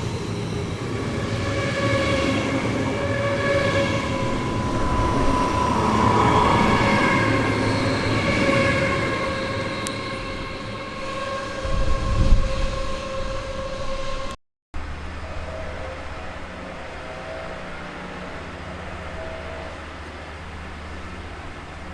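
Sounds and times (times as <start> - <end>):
train rumbling on track: 0.0 - 21.9
train whine: 0.0 - 21.9.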